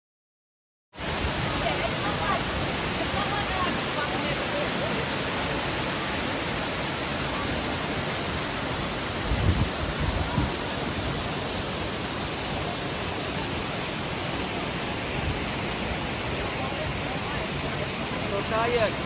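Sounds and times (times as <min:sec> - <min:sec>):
waterfall roaring: 0:01.0 - 0:19.0.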